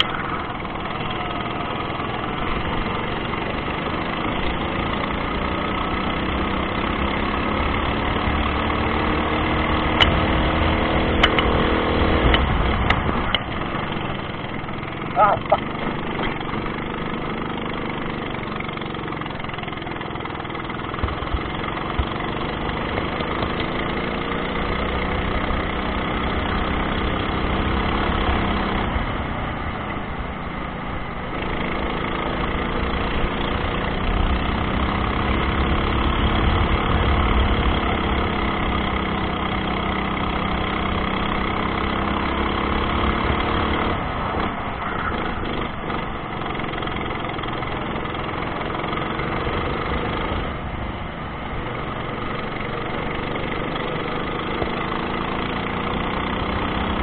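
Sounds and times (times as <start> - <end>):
go-kart engine at full throttle: 0.0 - 57.0
wind and tyre rumble: 0.0 - 57.0.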